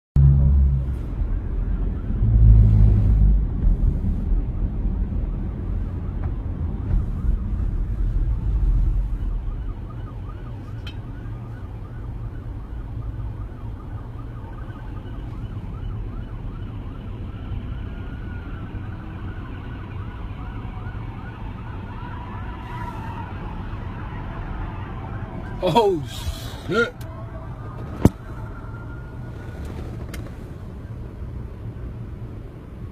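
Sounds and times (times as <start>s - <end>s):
engine and road rumble: 0.2s - 32.9s
police sirens wailing: 4.4s - 30.8s.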